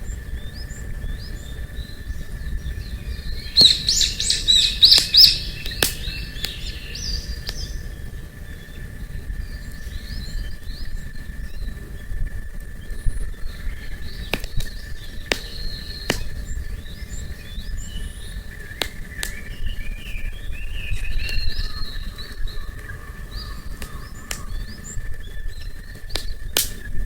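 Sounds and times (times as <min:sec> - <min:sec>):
small birds chirping: 0:00.0 - 0:27.0
campfire crackling and popping: 0:02.2 - 0:27.0.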